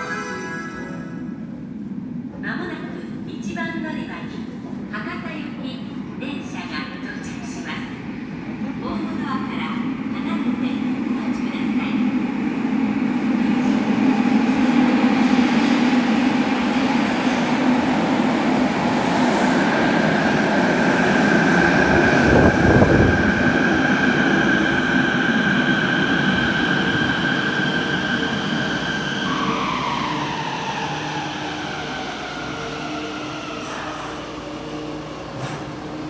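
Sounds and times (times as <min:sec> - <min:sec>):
train rumbling and braking: 0:00.0 - 0:36.0.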